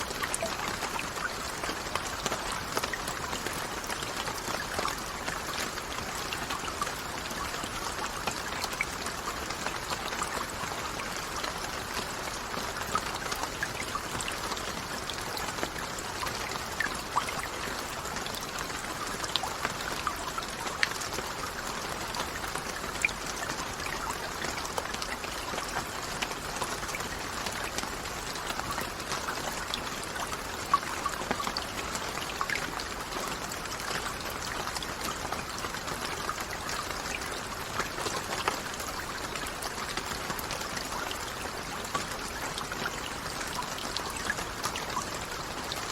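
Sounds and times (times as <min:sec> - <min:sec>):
hiss of falling rain: 0:00.0 - 0:45.9
rain drips and patters: 0:00.0 - 0:45.9.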